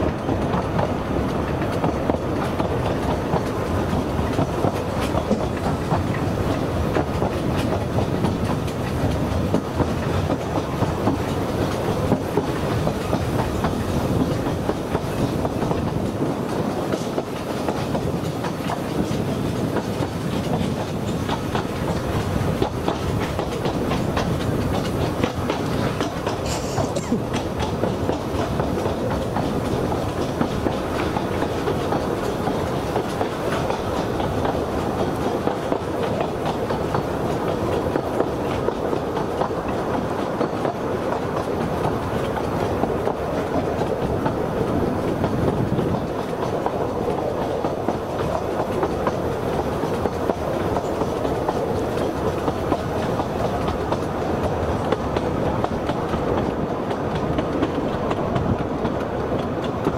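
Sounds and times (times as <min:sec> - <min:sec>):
steam train rumbling on track: 0:00.0 - 0:59.9.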